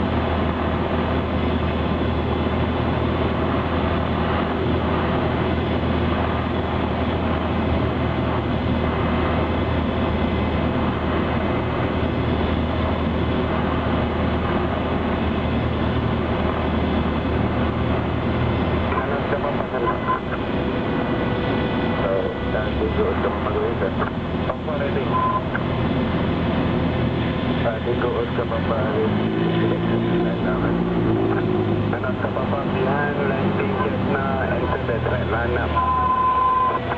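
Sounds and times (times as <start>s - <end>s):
airplane engine and propeller drone: 0.0s - 36.9s.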